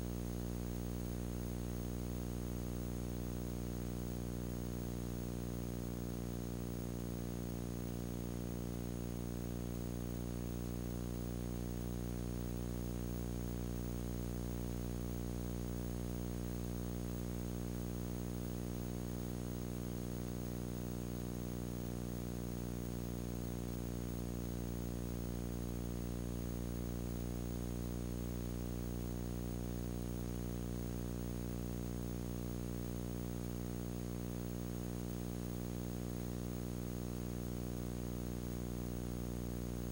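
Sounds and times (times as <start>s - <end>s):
electrical hum and buzz: 0.0s - 39.9s.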